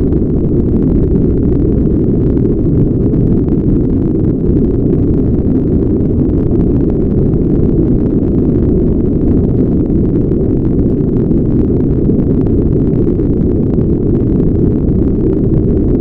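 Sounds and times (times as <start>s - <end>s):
brown noise: 0.0s - 16.0s.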